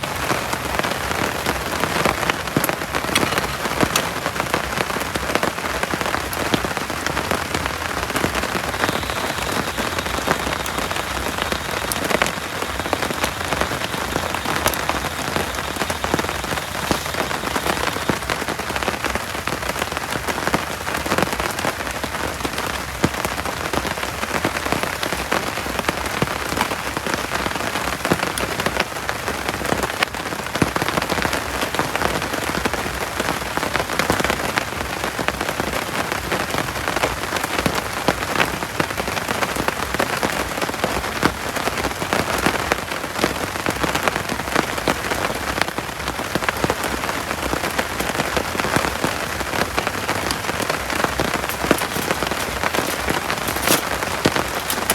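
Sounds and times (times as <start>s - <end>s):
heavy rain falling: 0.0s - 54.9s
raindrops striking sharply: 0.0s - 54.9s.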